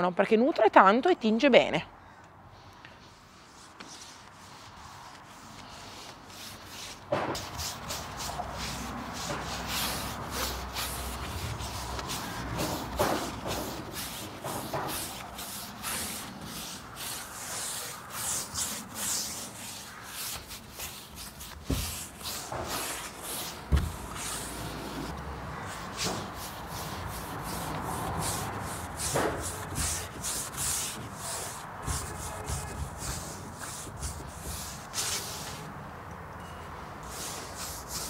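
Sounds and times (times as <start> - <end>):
paintbrush swishing over wood: 3.0 - 35.7, 37.0 - 38.0.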